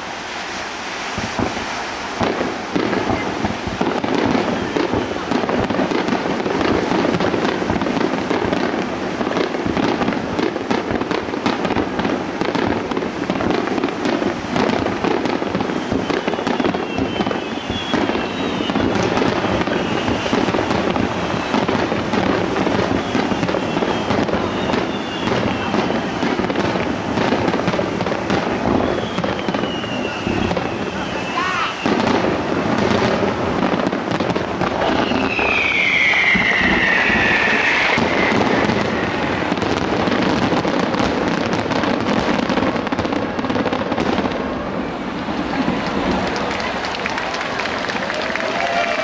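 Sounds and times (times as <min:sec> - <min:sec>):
falling firework whistles: 0:00.0 - 0:44.6
fireworks shell bursts and crackling: 0:01.1 - 0:44.3.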